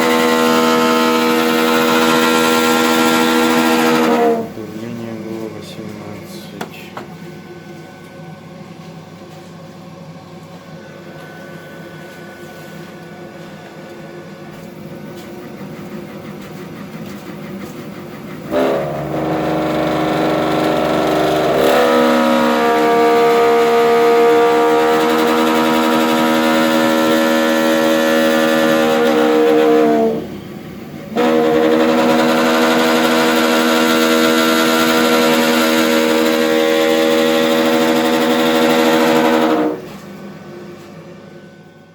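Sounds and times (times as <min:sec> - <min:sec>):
gas boiler humming: 0:00.0 - 0:41.9.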